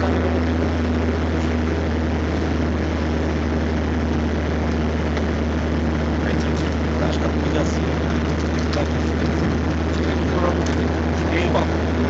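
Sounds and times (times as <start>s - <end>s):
car engine and road noise: 0.0s - 12.0s
constant low hum: 0.0s - 12.0s.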